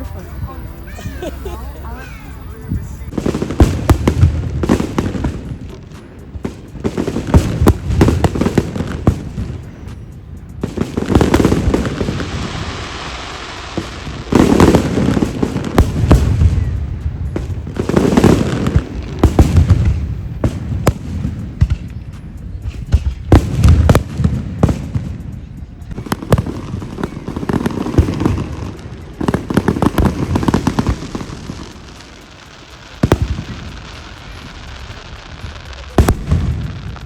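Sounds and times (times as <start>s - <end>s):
deep fireworks booms: 0.0s - 37.0s
fireworks bangs and crackles: 0.0s - 37.0s
fireworks hissing: 0.0s - 37.0s.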